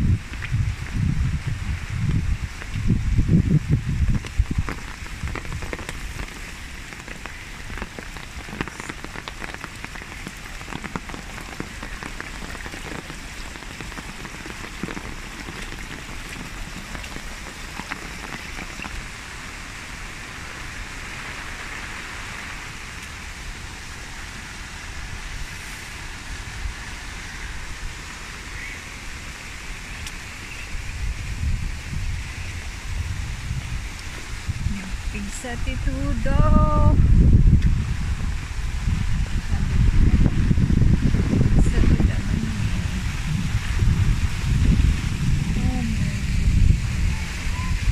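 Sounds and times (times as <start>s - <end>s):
rain on wet paving: 0.0s - 47.9s
running water in channels: 0.3s - 47.9s.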